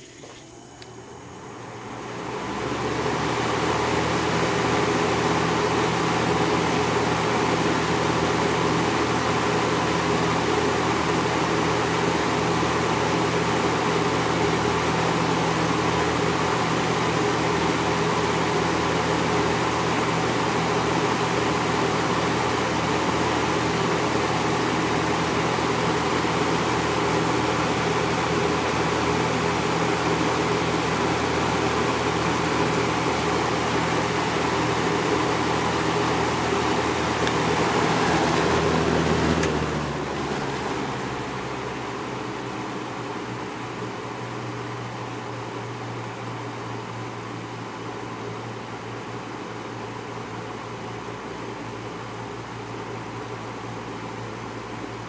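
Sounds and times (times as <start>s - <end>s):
box fan running: 0.0s - 55.0s.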